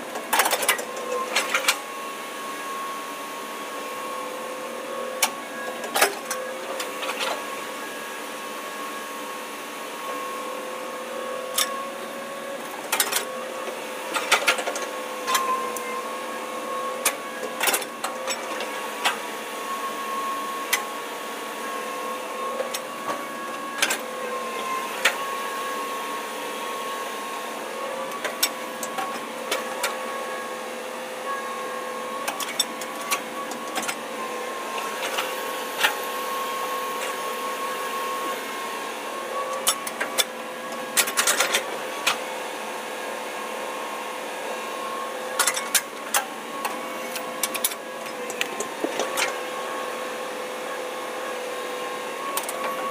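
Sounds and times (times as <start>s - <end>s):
excavator engine whining: 0.0s - 52.9s.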